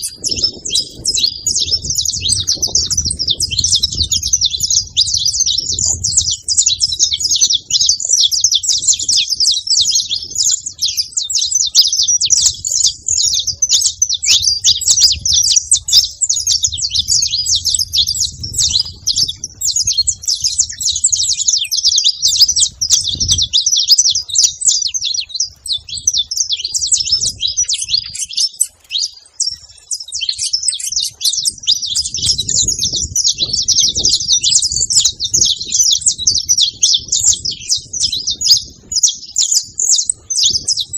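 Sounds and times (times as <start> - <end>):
finches singing and chirping: 0.0 - 40.9.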